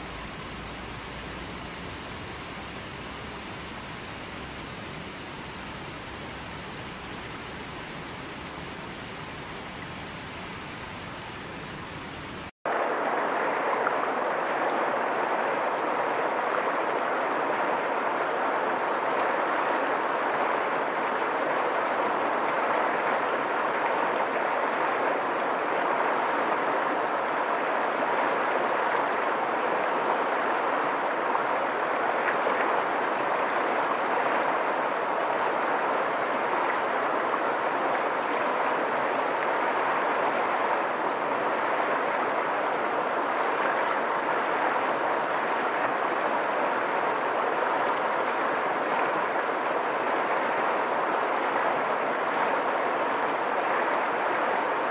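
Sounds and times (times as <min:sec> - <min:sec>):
river rushing through rapids: 0:00.0 - 0:54.9.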